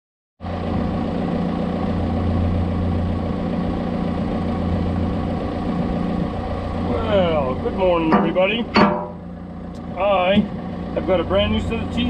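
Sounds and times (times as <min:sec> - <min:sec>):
diesel excavator engine idling: 0:00.4 - 0:12.0.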